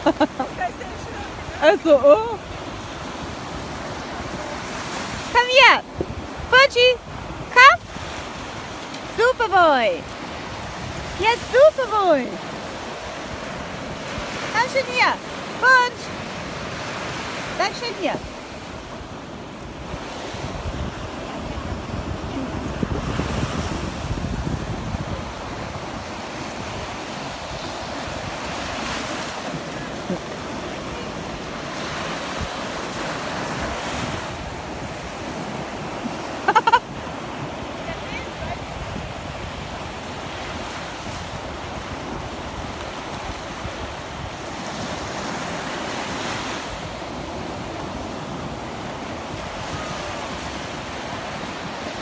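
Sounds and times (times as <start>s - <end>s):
surf washing up beach: 0.0s - 52.0s
wind buffeting microphone: 0.0s - 52.0s.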